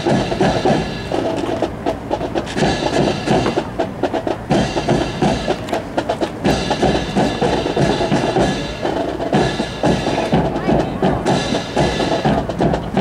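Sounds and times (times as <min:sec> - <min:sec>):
drums beating: 0:00.0 - 0:13.0.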